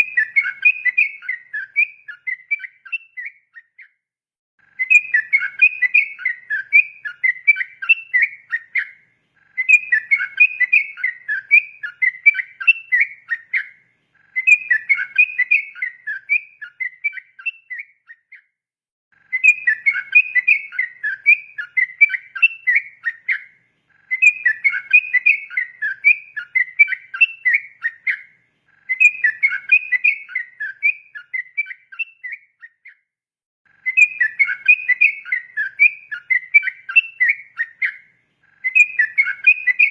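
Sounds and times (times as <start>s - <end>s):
bulbul singing: 0.0s - 4.0s, 4.6s - 18.5s, 19.2s - 33.0s, 33.7s - 39.9s.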